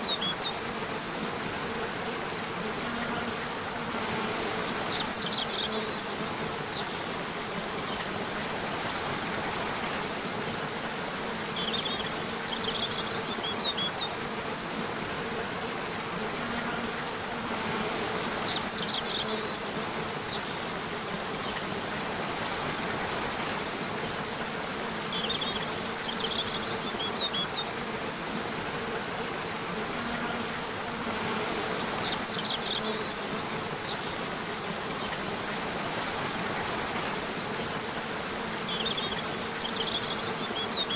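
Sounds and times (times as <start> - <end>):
insects buzzing: 0.0 - 40.9
rushing water: 0.0 - 40.9.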